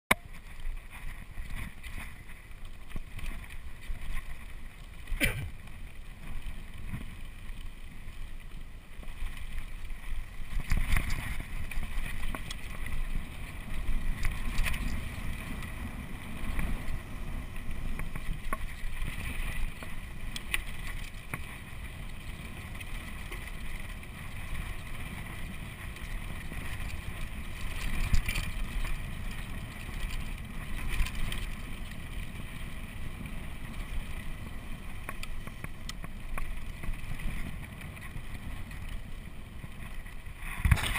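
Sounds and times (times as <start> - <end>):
bike rattling over bumps: 0.1 - 40.9
tyres on loose dirt: 0.1 - 40.9
wind rumbling on microphone: 0.1 - 40.9.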